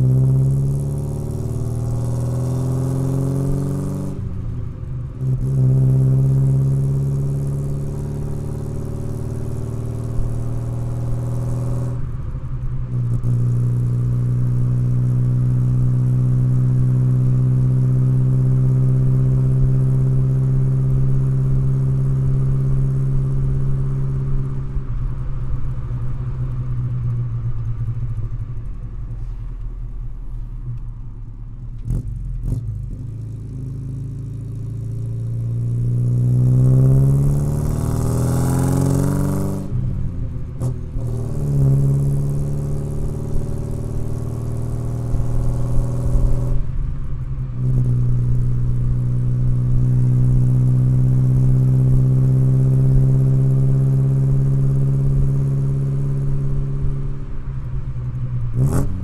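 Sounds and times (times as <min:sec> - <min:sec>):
car engine revving and idling: 0:00.0 - 0:59.0.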